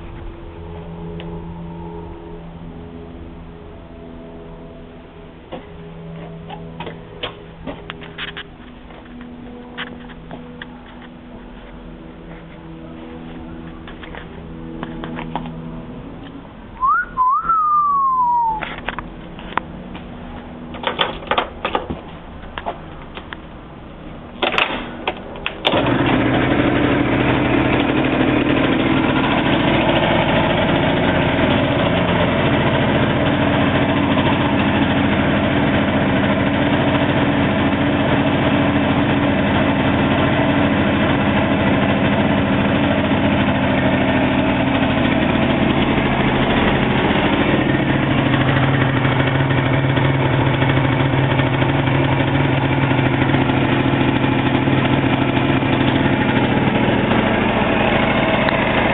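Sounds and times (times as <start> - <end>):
scooter engine idling: 0.0 - 22.2, 22.8 - 58.9.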